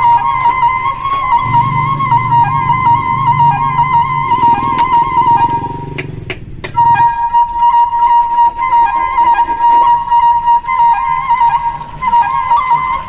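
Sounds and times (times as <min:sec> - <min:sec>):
flute holding a long note: 0:00.0 - 0:06.1, 0:06.7 - 0:13.0.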